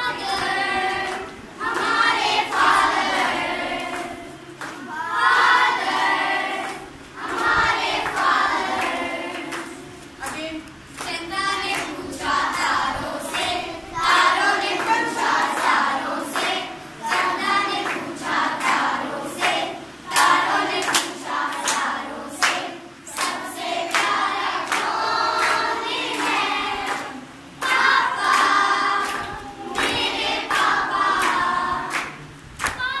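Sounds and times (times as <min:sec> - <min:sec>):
hands clapping along: 0:00.0 - 0:12.7, 0:13.3 - 0:32.9
children and adults singing: 0:00.0 - 0:33.0.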